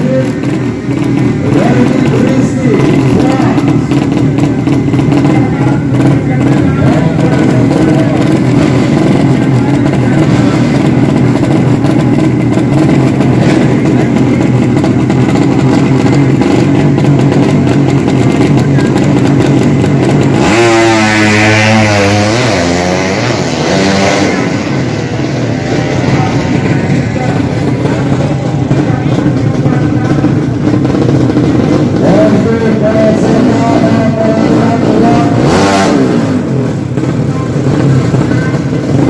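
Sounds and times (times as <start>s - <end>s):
motorcycle engine revving: 0.0s - 39.0s
motorcycle engines running loudly: 0.0s - 39.0s.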